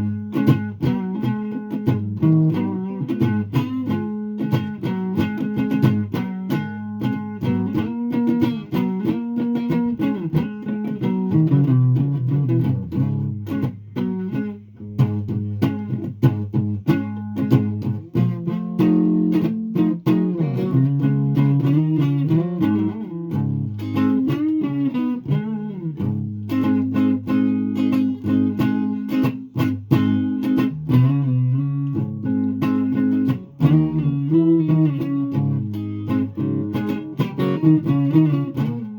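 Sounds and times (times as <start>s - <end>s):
guitar plucked notes and chords: 0.0s - 38.9s.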